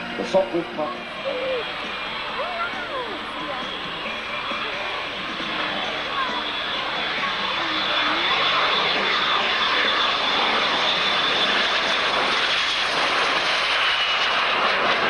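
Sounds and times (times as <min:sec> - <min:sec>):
aircraft engine rush: 0:00.0 - 0:15.0.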